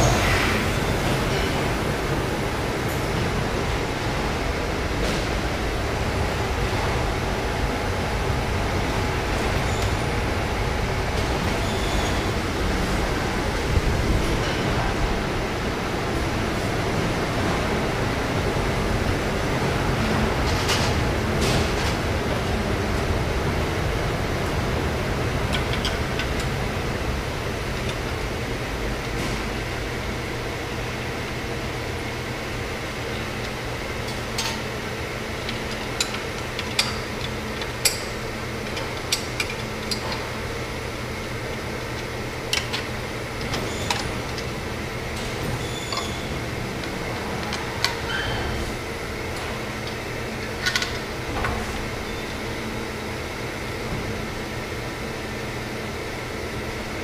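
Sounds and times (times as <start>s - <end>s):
factory machinery hum: 0.0s - 57.0s.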